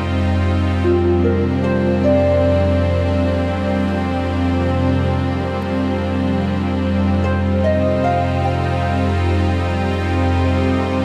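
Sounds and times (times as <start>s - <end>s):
slow new-age instrumental music: 0.0s - 11.0s.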